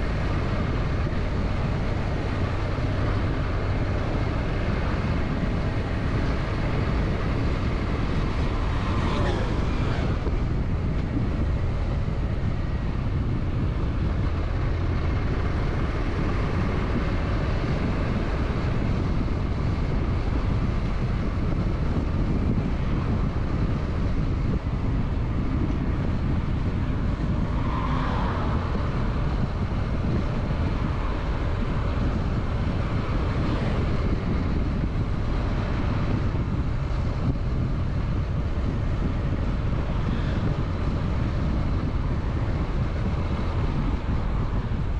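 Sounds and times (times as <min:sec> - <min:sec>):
wind over microphone: 0:00.0 - 0:44.9.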